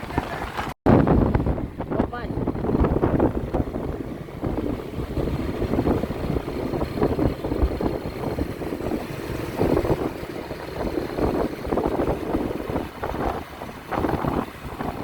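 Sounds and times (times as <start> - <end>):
vehicle and road rumble: 0.0 - 15.0.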